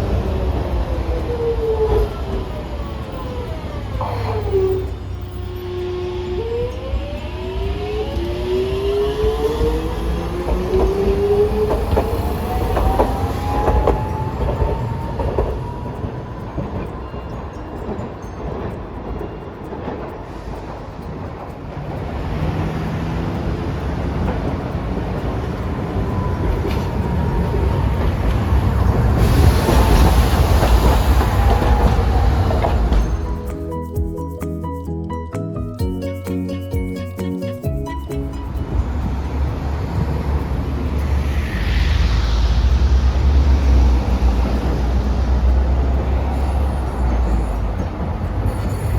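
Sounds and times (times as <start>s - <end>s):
streetcar motor whine: 0.0s - 48.9s
wheels rumbling on rail: 0.0s - 48.9s.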